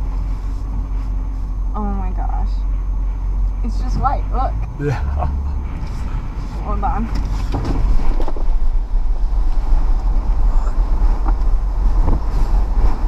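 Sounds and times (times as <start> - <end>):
blizzard wind buffeting microphone: 0.0 - 13.0.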